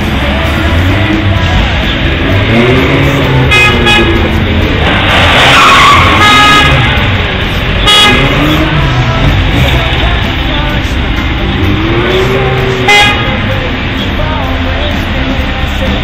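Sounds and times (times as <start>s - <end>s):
sports cars driving past: 0.0s - 14.2s.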